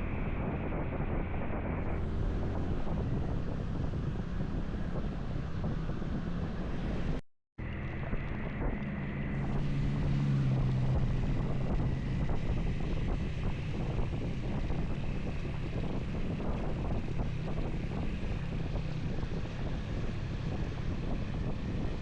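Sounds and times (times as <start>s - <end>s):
wind buffeting microphone: 0.0s - 22.0s
motorcycle engine running: 1.8s - 22.0s.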